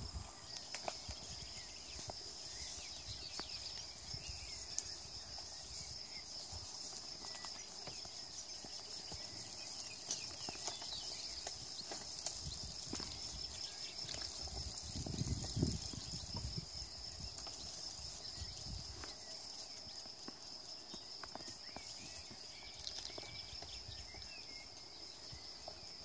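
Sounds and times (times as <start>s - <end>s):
goats grazing clicks and rustles: 0.0s - 26.0s.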